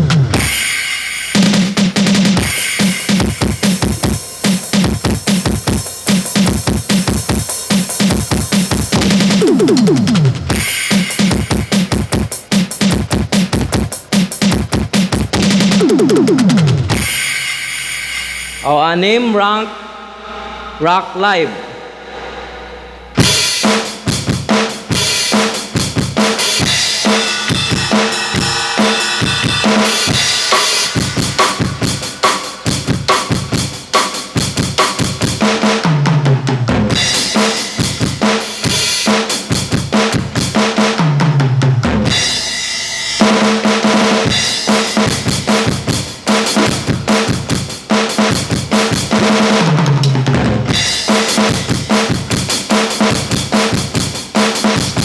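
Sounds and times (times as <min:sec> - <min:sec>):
electronic drum kit rock beat: 0:00.0 - 0:19.0, 0:23.2 - 0:55.0.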